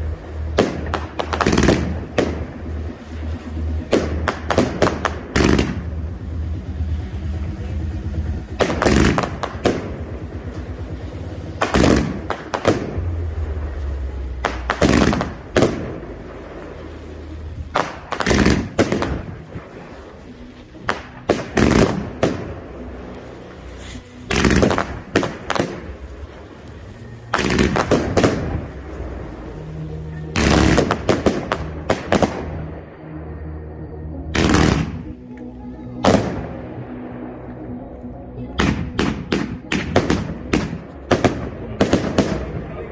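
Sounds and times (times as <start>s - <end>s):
fireworks bursting overhead: 0.0s - 33.4s, 34.3s - 37.8s, 38.4s - 42.9s
crackling firework stars: 0.0s - 42.9s.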